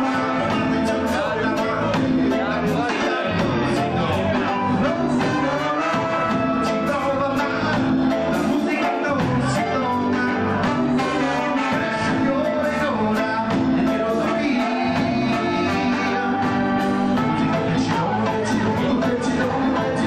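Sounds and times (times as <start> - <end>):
reggae band playing live: 0.0 - 20.0.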